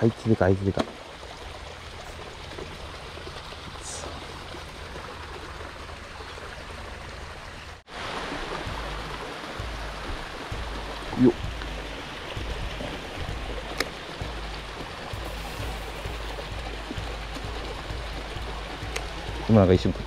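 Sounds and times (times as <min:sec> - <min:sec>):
water churning into creek: 0:00.0 - 0:20.0.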